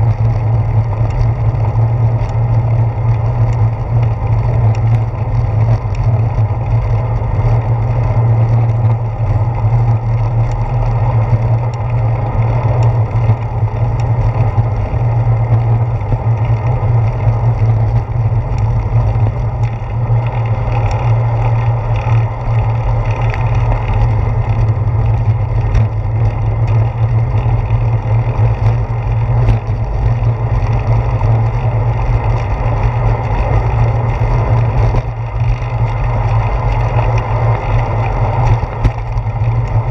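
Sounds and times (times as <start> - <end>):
wind and road vibration rumble: 0.0 - 39.9.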